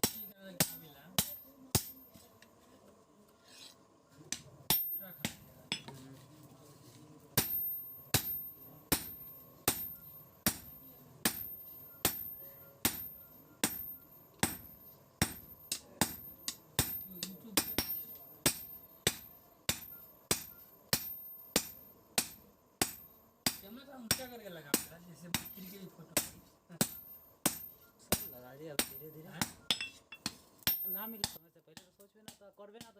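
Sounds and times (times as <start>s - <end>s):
hammer striking steel on anvil: 0.0s - 2.3s, 4.3s - 6.0s, 7.4s - 32.9s.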